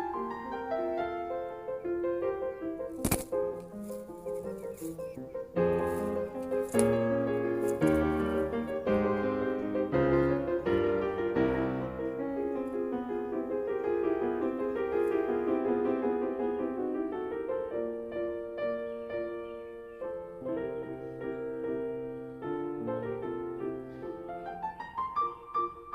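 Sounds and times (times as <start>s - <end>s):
slow piano music: 0.0s - 25.9s.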